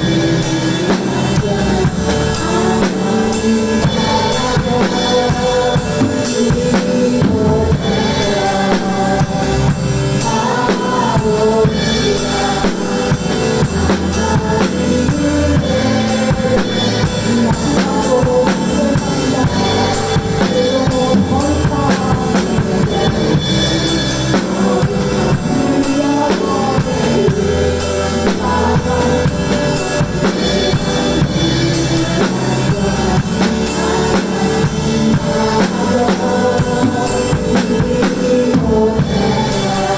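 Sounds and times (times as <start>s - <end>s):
drum kit playing: 0.0s - 39.9s
worship song backing track: 0.0s - 39.9s.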